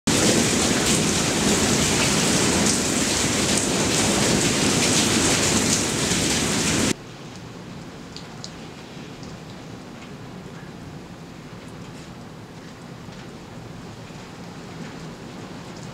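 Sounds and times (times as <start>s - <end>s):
heavy rain downpour: 0.1s - 15.9s.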